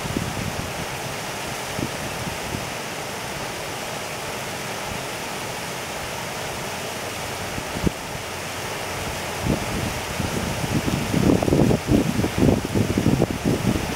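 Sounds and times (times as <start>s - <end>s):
river water flowing: 0.0s - 13.9s.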